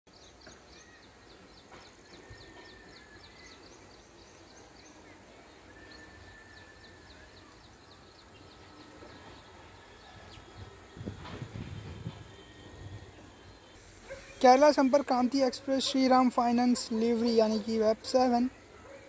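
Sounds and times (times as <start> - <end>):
bird chirping: 0.1 - 19.0.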